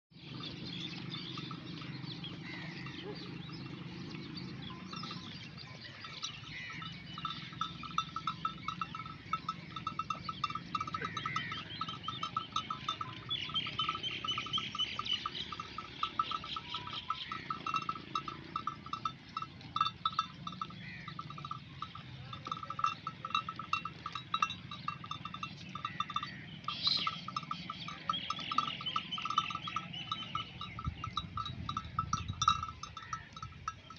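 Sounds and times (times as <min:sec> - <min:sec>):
sheep bells clinking: 0:00.2 - 0:33.9.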